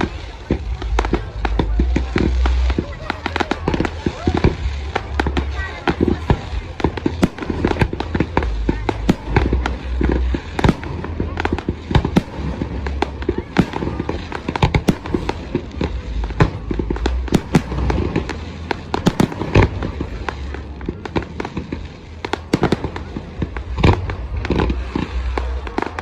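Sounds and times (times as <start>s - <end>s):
fireworks bangs and crackles: 0.0s - 26.0s
low rumble: 0.0s - 26.0s.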